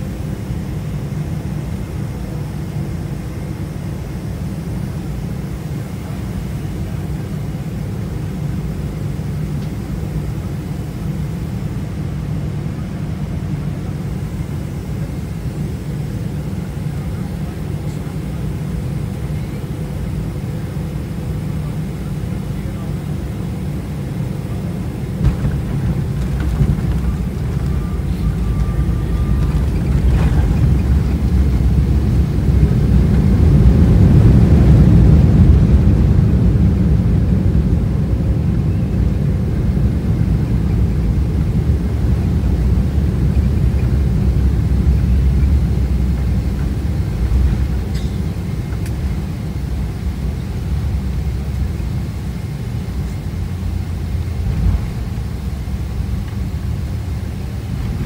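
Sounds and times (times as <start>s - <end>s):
airliner landing rumble: 0.0s - 58.0s.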